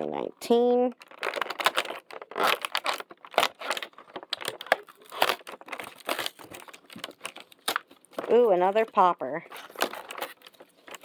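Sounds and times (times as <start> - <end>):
cardboard packaging being torn: 1.0 - 11.0.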